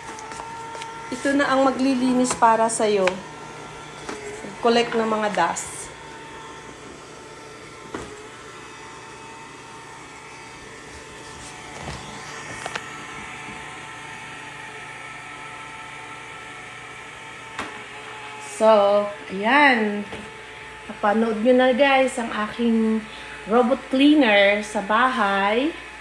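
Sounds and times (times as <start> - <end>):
robot vacuum motor whir: 0.0 - 26.0.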